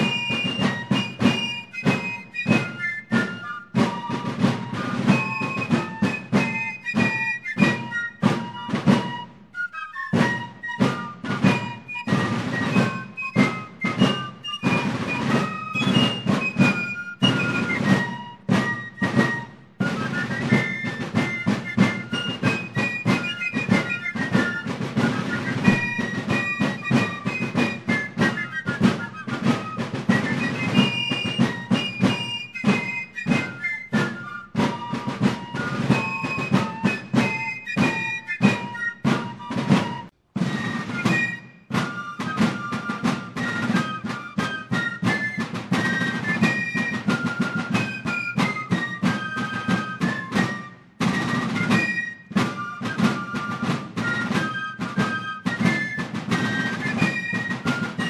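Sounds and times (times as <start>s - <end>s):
fife melody: 0.0s - 58.0s
snare drum beats: 0.0s - 58.0s.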